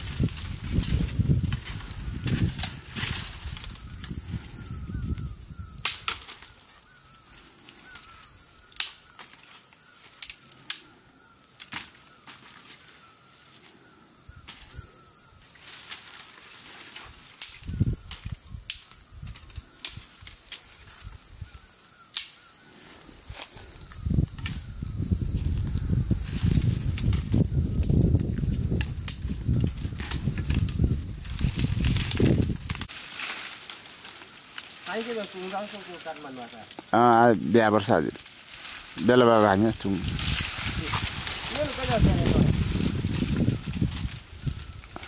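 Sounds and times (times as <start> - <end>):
insects chorus: 0.0 - 45.0.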